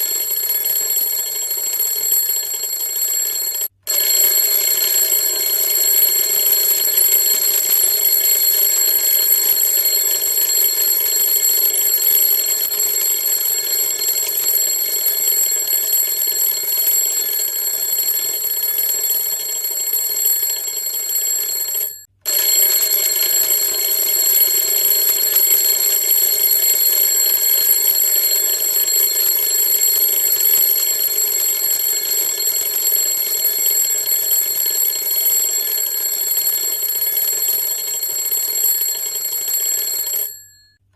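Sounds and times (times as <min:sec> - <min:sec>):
alarm clock ringing: 0:00.0 - 0:40.8.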